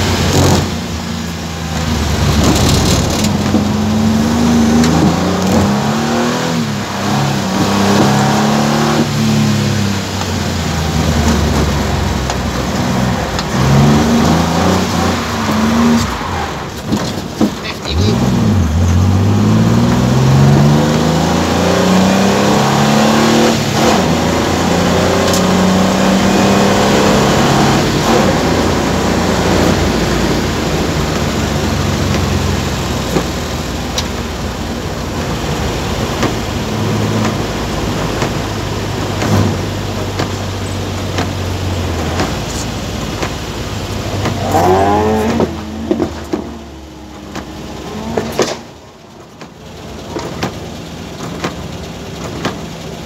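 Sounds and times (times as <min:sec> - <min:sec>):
car engine accelerating: 0:00.0 - 0:53.0
wet road and rain hiss: 0:00.0 - 0:53.0.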